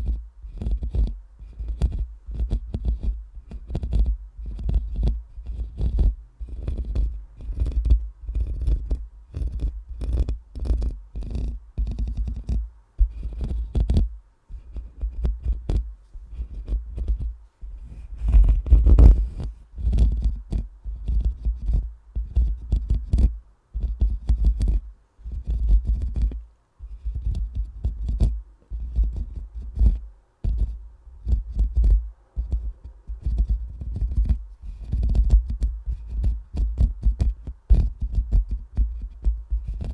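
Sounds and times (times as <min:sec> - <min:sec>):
microphone being rubbed and scratched: 0:00.0 - 0:39.9.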